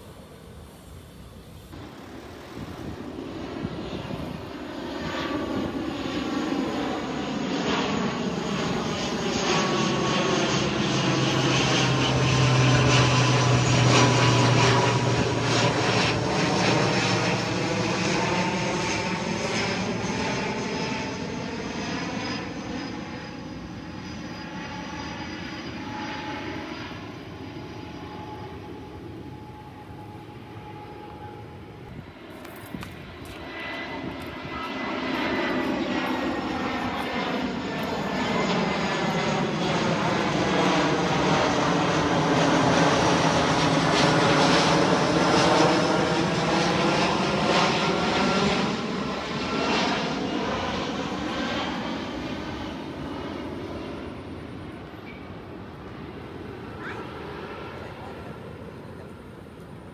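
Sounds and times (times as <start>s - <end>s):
airliner flying past: 0.0s - 59.9s.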